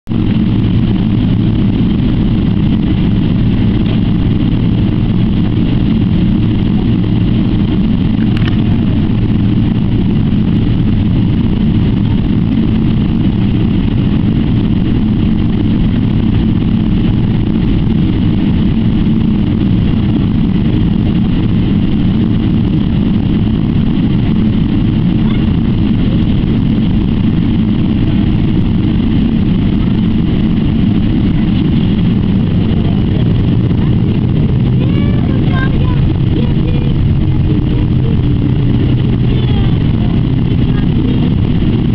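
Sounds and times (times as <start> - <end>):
airliner cabin engine drone: 0.0 - 41.9
steady tones: 0.1 - 41.9.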